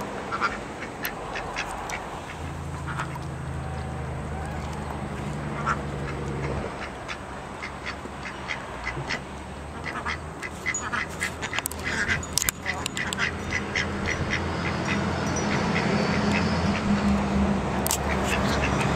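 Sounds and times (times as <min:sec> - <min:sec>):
ducks quacking: 0:00.2 - 0:17.2, 0:17.9 - 0:18.9.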